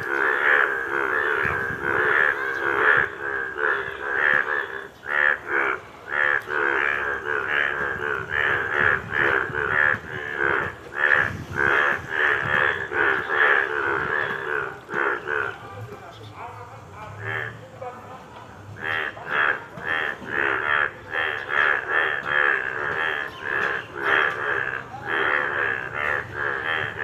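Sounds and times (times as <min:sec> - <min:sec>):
frogs croaking: 0:00.0 - 0:27.0.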